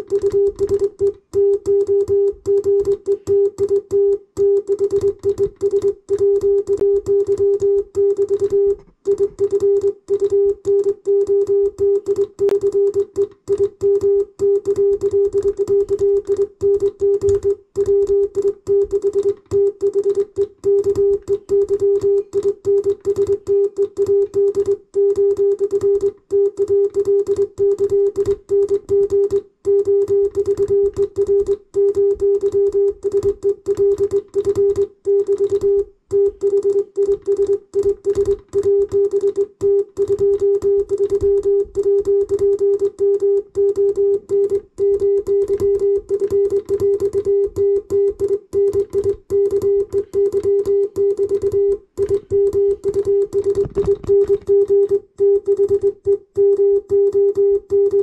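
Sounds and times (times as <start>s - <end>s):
morse code beeps: 0.0s - 58.0s.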